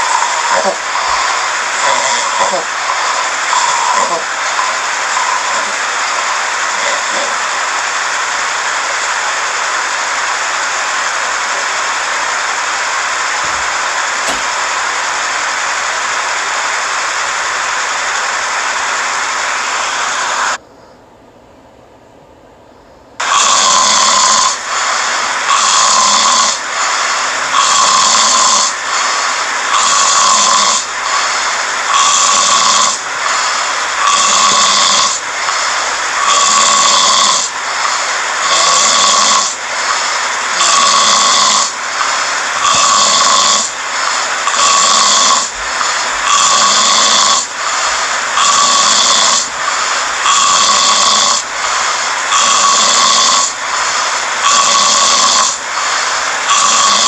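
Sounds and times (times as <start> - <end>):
loud snoring: 0.0 - 20.6, 23.2 - 57.0.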